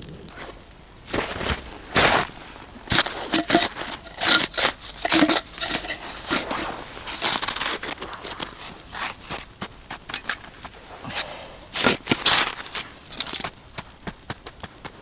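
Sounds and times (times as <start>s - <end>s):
crunching and crinkling handling: 0.0s - 14.9s.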